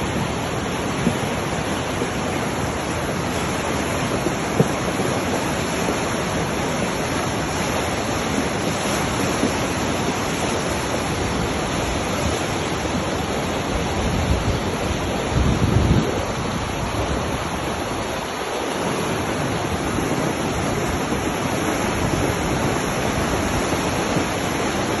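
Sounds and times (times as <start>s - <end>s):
river rushing through rapids: 0.0s - 25.0s.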